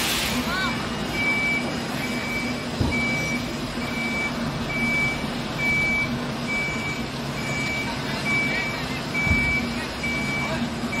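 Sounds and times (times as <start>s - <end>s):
truck engine running: 0.0s - 11.0s
truck reversing alarm beeping: 0.5s - 11.0s.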